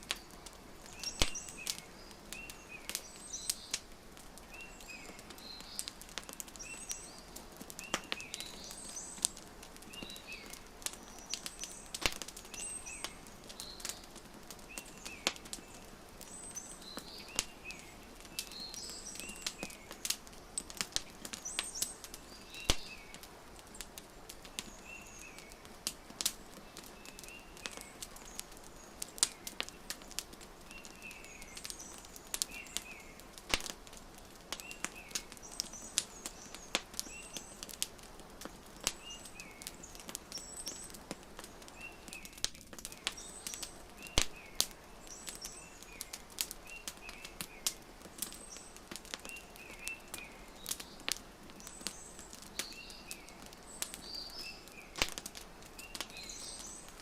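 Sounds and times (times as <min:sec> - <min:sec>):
wood fire crackling: 0:00.0 - 0:57.0
small bird chirping: 0:04.5 - 0:33.7, 0:38.7 - 0:57.0.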